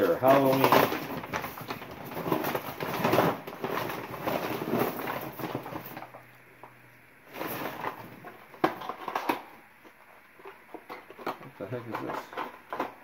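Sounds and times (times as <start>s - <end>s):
rustling and clattering of decorations: 0.0s - 13.0s.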